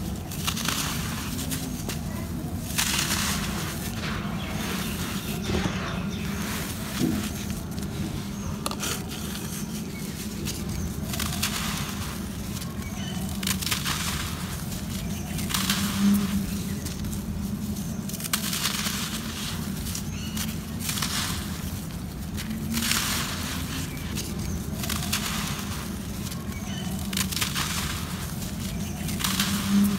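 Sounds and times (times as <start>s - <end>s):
soil grains trickling: 0.0s - 29.9s.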